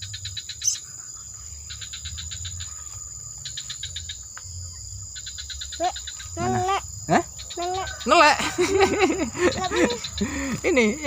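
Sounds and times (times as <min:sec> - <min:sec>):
rapid high bird chirps: 0:00.0 - 0:11.0.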